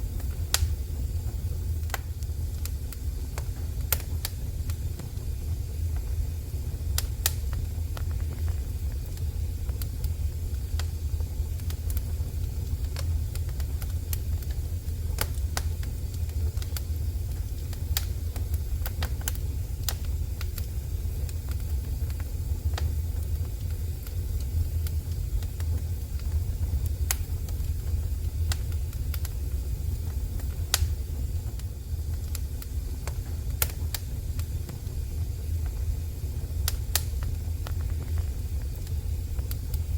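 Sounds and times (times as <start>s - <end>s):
fire crackles and pops: 0.0s - 39.9s
low rumble of flames: 0.0s - 39.9s.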